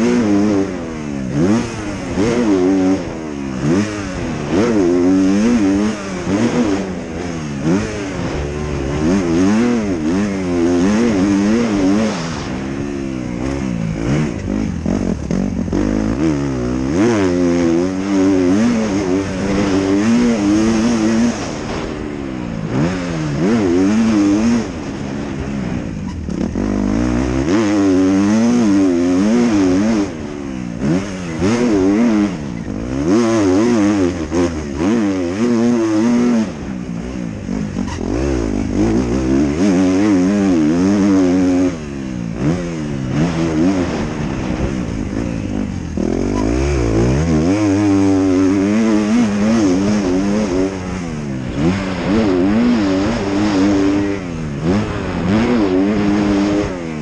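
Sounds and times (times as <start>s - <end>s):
motorbike engine revving: 0.0s - 57.0s.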